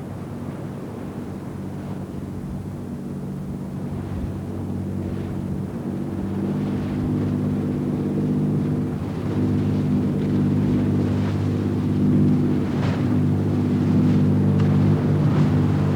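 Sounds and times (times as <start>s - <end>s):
boat engine humming: 0.0s - 15.9s.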